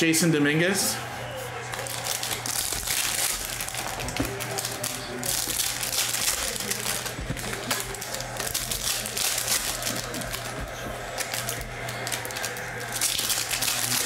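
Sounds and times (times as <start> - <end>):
foil wrappers crinkling: 1.6 - 14.0
cards shuffled: 1.7 - 14.0.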